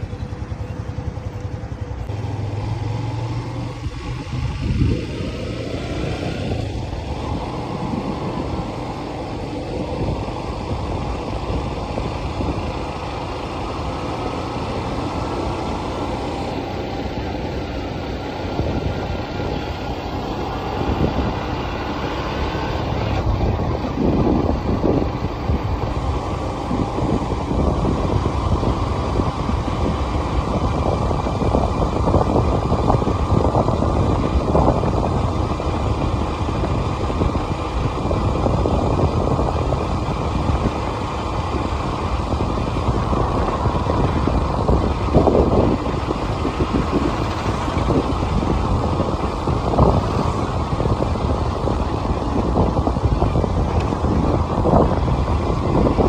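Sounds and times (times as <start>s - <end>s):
vehicle engine and tyres rumbling: 0.0s - 56.0s
wind buffeting microphone: 0.0s - 56.0s.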